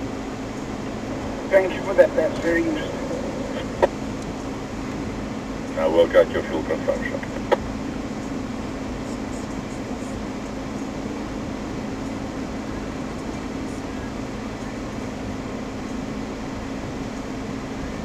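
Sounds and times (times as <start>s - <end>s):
vehicle engine hum from inside: 0.0s - 18.0s.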